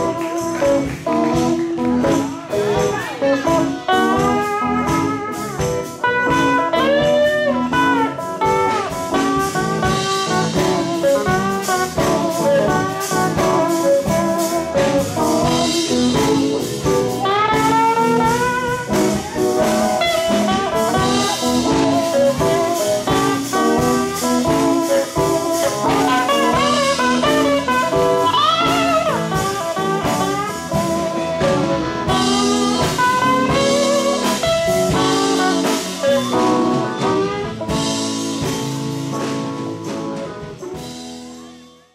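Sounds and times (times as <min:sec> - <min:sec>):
steel guitar sliding melody: 0:00.0 - 0:41.8
band accompaniment: 0:00.0 - 0:41.9
drum kit beat: 0:00.0 - 0:41.9.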